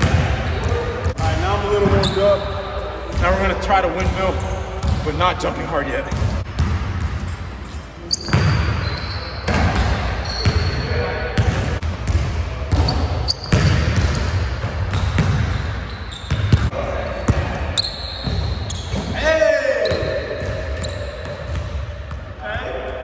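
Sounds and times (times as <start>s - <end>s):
sneakers squeaking: 0.0s - 23.0s.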